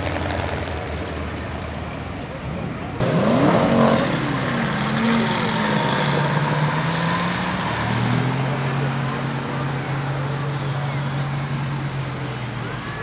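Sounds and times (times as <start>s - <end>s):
car engines driving past: 0.0s - 13.0s.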